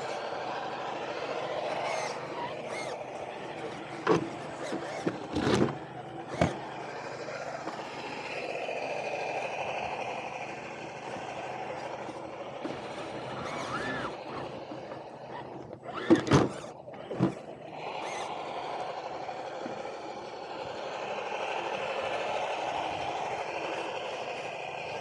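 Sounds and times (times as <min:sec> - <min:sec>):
electric motor and gear whine: 0:00.0 - 0:25.0.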